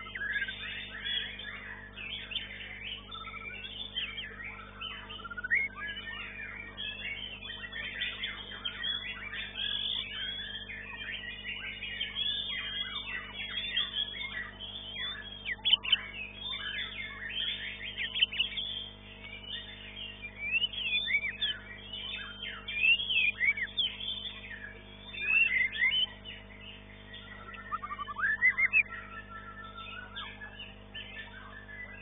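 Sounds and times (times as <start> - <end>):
birds singing whistles and chirps: 0.0 - 32.0
steady low hum: 0.0 - 32.0.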